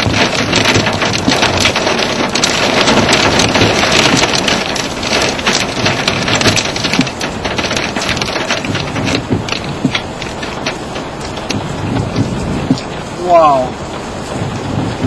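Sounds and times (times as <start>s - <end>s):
hail drumming on car body: 0.0s - 15.0s.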